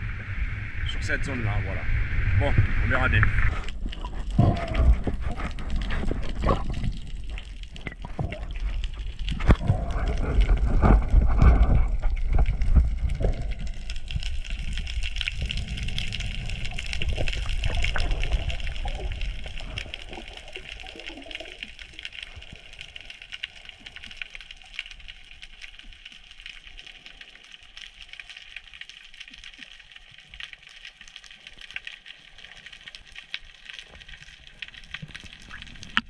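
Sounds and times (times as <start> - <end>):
seawater splashing and bubbling: 0.0 - 36.0
underwater hiss with crackling: 0.0 - 36.0.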